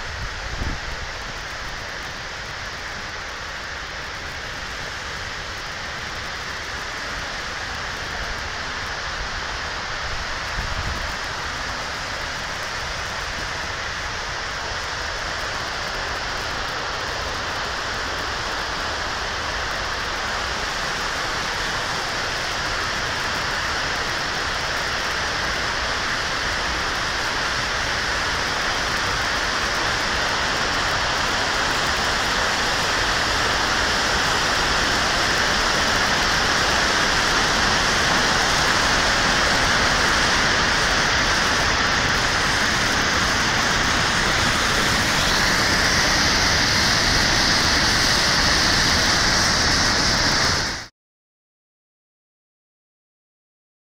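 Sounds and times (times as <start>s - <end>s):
churning whitewater: 0.0s - 50.9s
water rushing over dam spillway: 0.0s - 50.9s.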